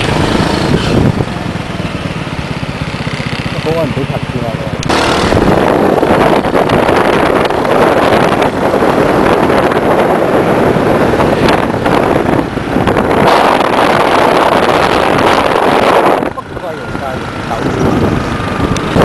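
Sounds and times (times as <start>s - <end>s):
car road and engine noise: 0.0s - 19.0s
wind buffeting microphone: 0.0s - 19.0s.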